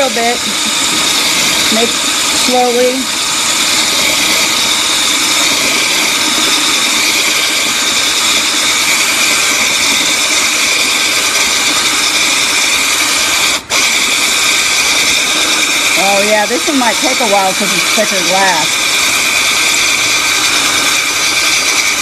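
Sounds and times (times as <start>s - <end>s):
power drill grinding into glass: 0.0s - 22.0s.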